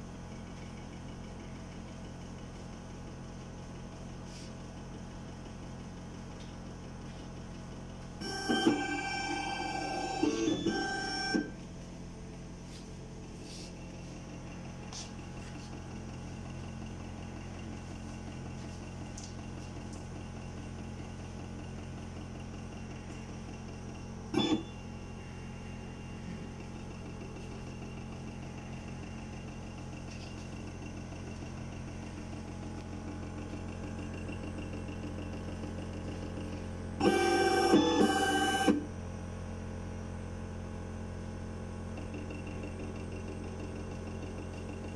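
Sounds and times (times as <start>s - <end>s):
high whining motors: 0.0s - 44.9s
milling machine hum: 0.0s - 44.9s.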